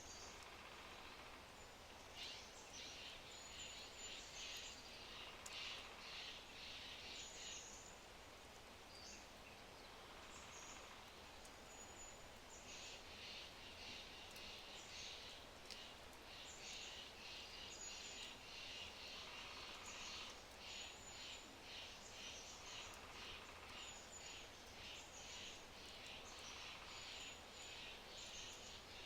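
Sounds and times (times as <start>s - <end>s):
fire crackling faintly: 0.0s - 29.0s
songbirds singing: 0.0s - 29.0s.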